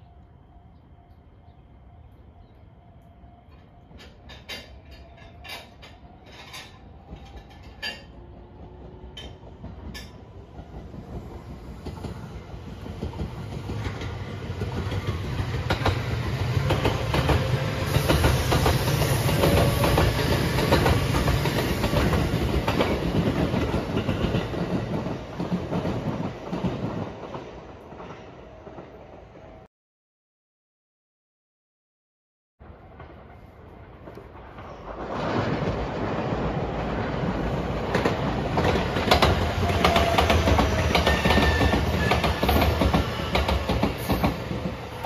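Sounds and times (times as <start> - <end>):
train passing with clacking wheels: 0.0 - 29.7, 32.6 - 45.0.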